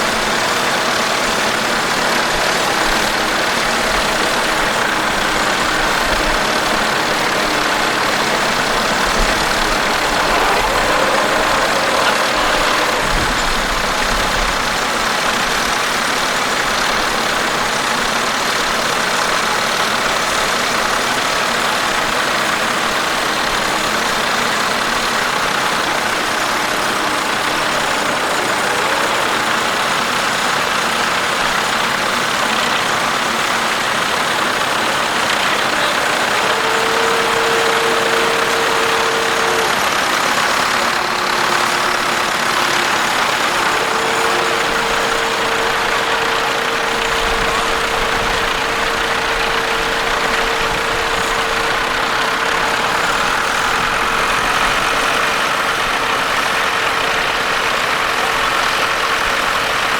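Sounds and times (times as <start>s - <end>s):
steady droning note: 0.0s - 59.9s
tractor engine running: 0.0s - 59.9s.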